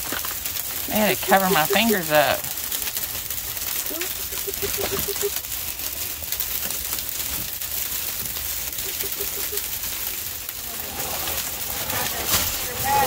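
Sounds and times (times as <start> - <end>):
freezing rain pattering: 0.0 - 13.0.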